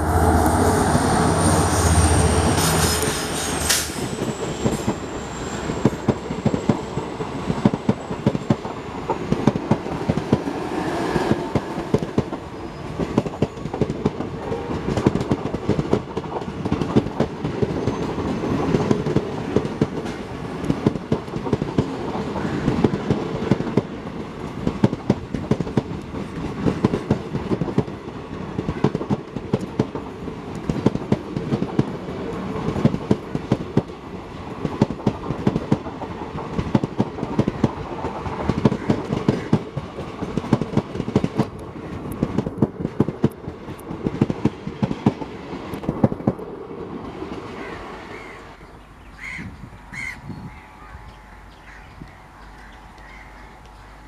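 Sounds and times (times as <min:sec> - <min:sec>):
diesel locomotive engine passing: 0:00.0 - 0:49.1
train wheels clickety-clack: 0:00.4 - 0:48.3.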